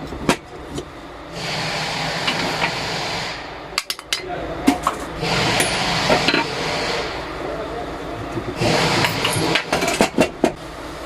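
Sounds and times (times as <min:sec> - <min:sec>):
steady mechanical noise: 0:00.0 - 0:11.0.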